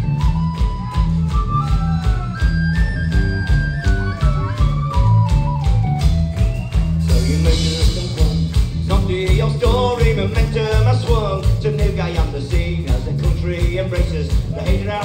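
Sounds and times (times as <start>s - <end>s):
driving drum beat: 0.0s - 15.0s
heavy bass: 0.0s - 15.0s
high instrumental melody: 0.0s - 15.0s
live folk-punk band playing: 0.0s - 15.0s.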